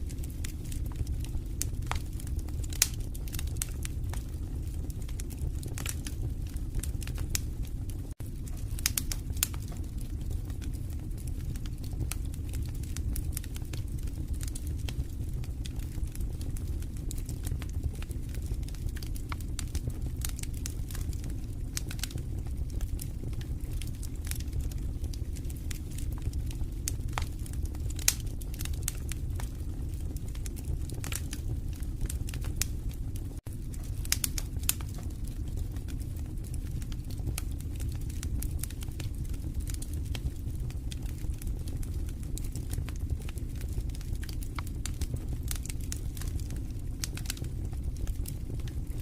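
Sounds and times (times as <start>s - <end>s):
low rumble of flames: 0.0s - 49.0s
wood fire crackling: 0.0s - 49.0s.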